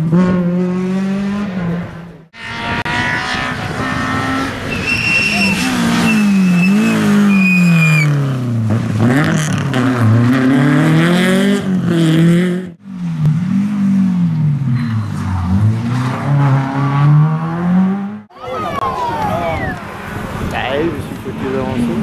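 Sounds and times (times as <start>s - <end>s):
car accelerating: 0.0s - 22.0s
rally car engines revving: 0.0s - 22.0s.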